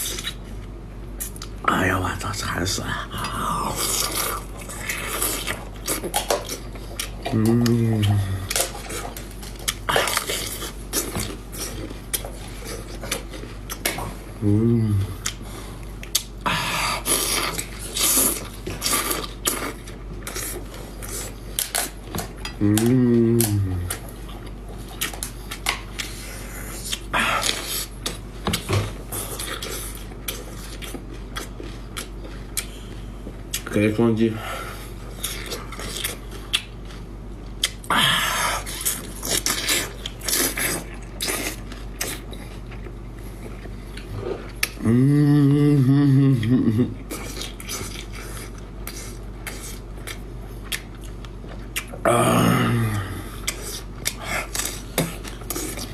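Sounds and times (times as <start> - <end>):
crunching of seafood being eaten: 0.0 - 34.0, 34.6 - 55.9.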